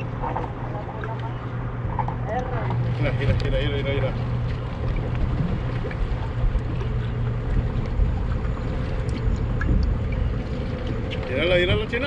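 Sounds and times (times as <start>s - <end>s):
low hum: 0.0s - 12.0s
wind on microphone: 0.0s - 12.0s.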